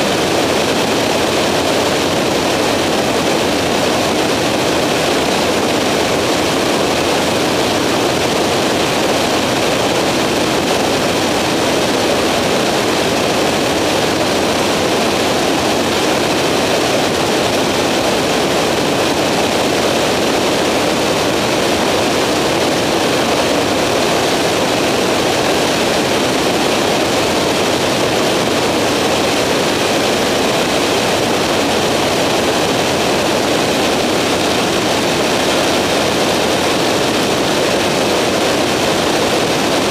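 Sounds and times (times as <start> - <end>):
engine and propeller drone: 0.0 - 39.9
rushing wind: 0.0 - 39.9.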